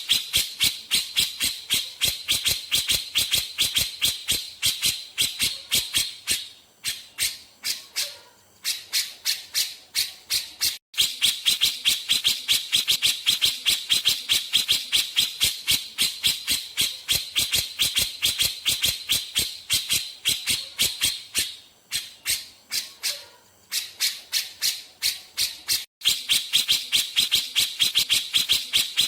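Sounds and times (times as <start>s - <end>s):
bird song of sharp high notes: 0.0s - 29.0s.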